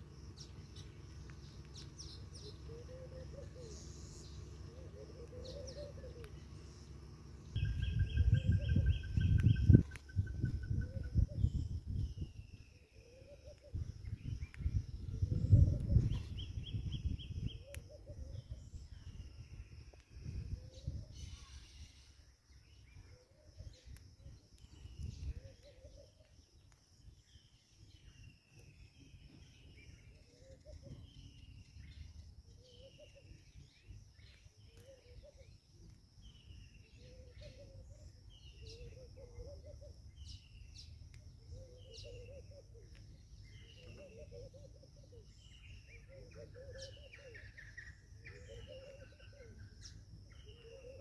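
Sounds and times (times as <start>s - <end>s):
low bird warbling: 0.0s - 26.6s, 27.2s - 51.0s
high insect drone: 0.0s - 51.0s.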